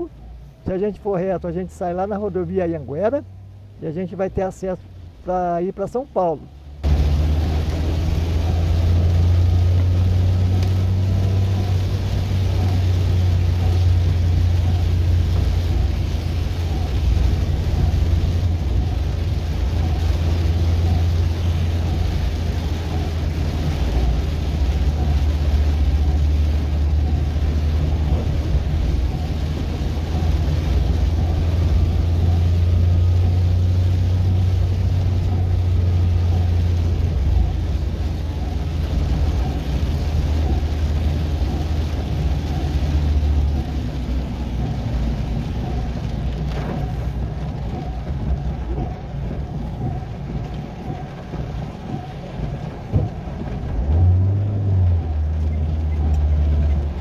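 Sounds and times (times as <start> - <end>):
car engine and road drone: 0.0 - 57.0
rain: 0.0 - 57.0
tyres hissing on wet road: 1.2 - 57.0.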